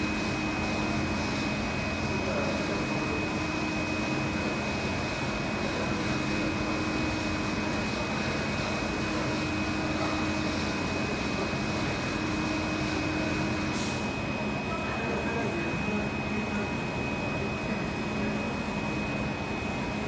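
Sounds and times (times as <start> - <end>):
printer machine whir: 0.0 - 20.0.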